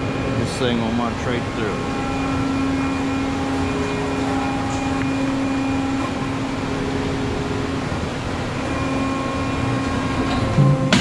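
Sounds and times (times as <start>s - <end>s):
hydraulic power pack humming: 0.0s - 11.0s.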